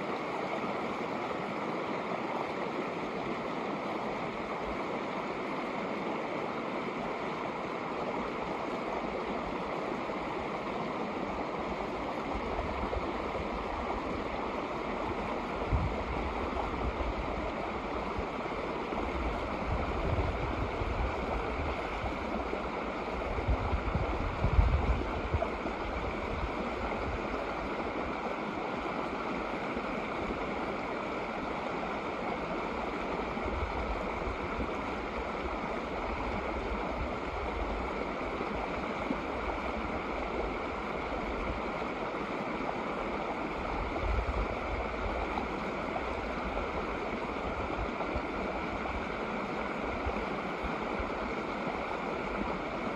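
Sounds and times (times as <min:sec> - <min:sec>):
creek running over rocks: 0:00.0 - 0:52.9.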